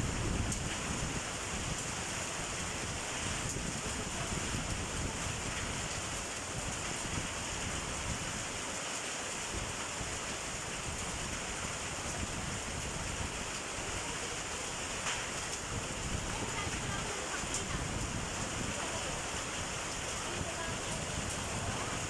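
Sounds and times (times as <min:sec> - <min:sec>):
hail falling: 0:00.0 - 0:22.0
heavy rain: 0:00.0 - 0:22.0.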